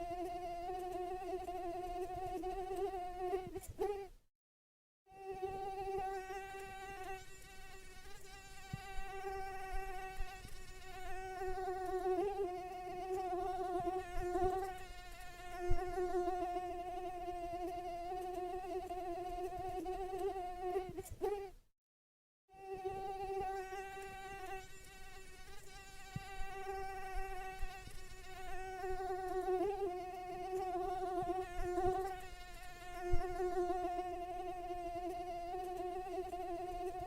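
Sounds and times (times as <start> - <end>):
mosquito buzzing: 0.0 - 4.2, 5.1 - 21.6, 22.5 - 37.0.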